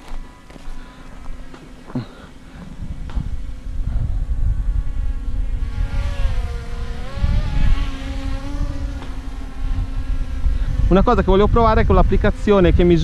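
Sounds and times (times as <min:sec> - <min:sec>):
drone propellers whining: 0:00.0 - 0:13.0
low wind rumble: 0:00.0 - 0:13.0.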